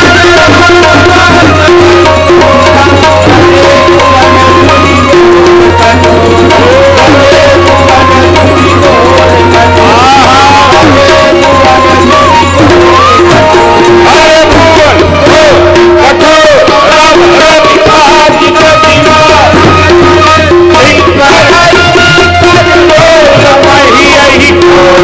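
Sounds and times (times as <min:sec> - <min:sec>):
devotional music: 0:00.0 - 0:25.0
tabla drumming: 0:00.0 - 0:25.0.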